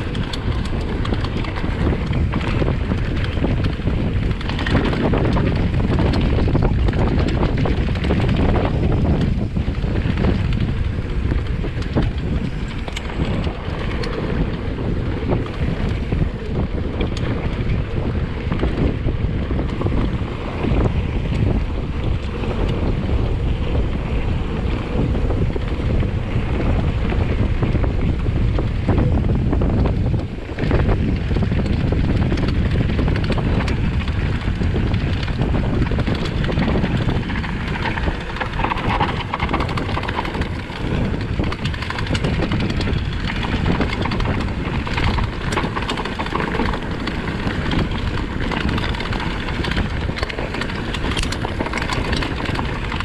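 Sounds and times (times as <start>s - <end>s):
bike rattling on rough trail: 0.0s - 53.0s
bike tyres rumbling: 0.0s - 53.0s
wind buffeting microphone: 0.0s - 53.0s.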